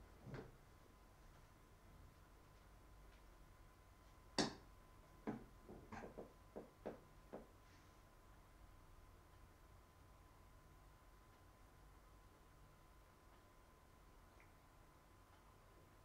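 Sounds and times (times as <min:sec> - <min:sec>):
faint steady tone: 0:00.0 - 0:16.0.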